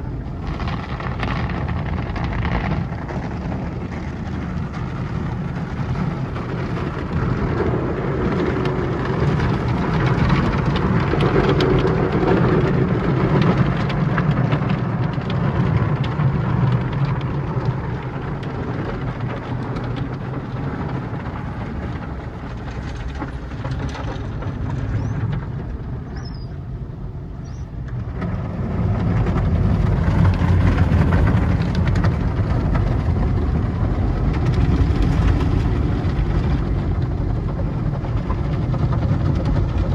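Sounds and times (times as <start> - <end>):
car wash machinery and spraying: 0.0 - 39.9
low rumble: 0.0 - 39.9.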